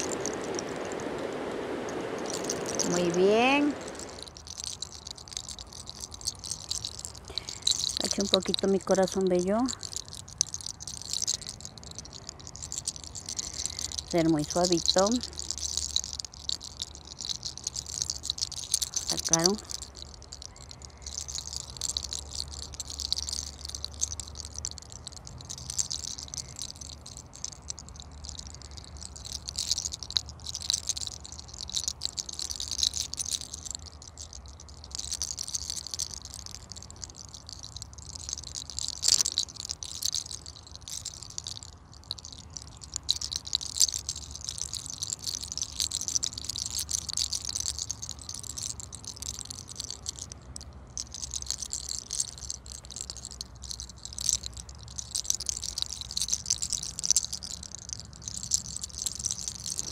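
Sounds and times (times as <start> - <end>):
hair crackling between fingers: 0.0 - 59.9.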